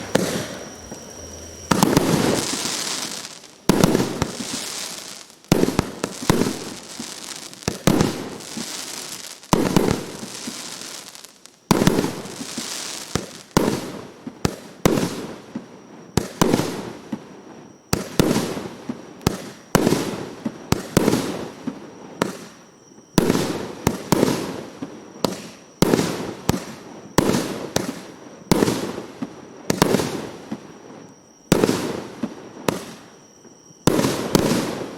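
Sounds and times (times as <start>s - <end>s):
firework bangs: 0.0s - 34.9s
firework crackle: 0.0s - 34.9s.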